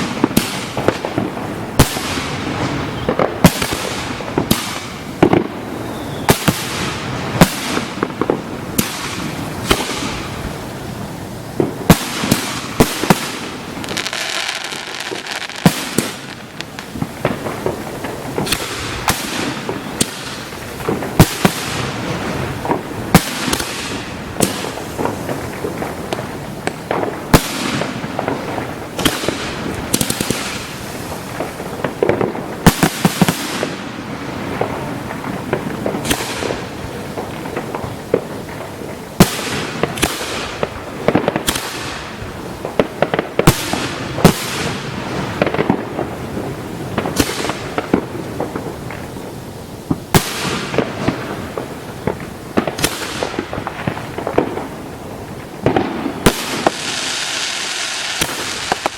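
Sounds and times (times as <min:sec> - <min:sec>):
firework hiss: 0:00.0 - 0:58.9
firework shells booming: 0:00.0 - 0:58.9
fireworks crackling: 0:00.0 - 0:58.9.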